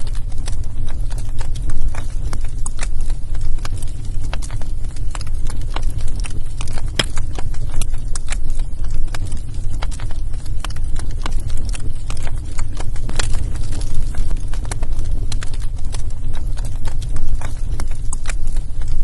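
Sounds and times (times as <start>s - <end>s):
burning logs crackling and popping: 0.0s - 19.0s
low fire rumble: 0.0s - 19.0s.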